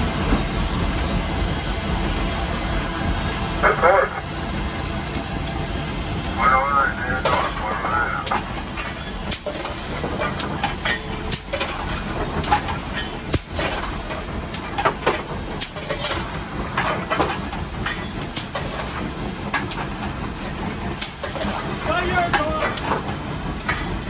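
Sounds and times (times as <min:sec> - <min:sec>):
steam hissing: 0:00.0 - 0:24.0
steam locomotive rumbling: 0:00.0 - 0:24.0.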